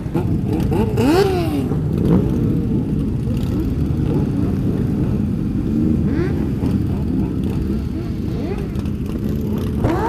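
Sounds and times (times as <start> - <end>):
motorcycle engines revving: 0.0 - 10.0.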